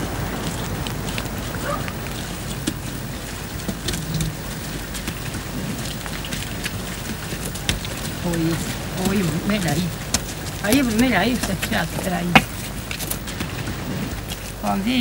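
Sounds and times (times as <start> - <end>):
hooves clicking on cobbles: 0.0 - 15.0
steady hiss: 0.0 - 15.0.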